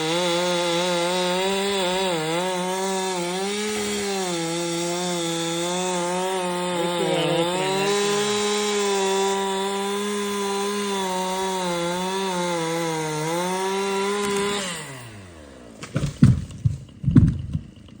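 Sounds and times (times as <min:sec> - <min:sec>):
chainsaw running at high revs: 0:00.0 - 0:15.8.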